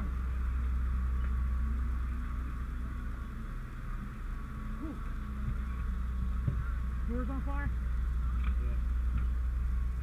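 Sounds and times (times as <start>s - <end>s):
fire engine running: 0.0s - 10.0s.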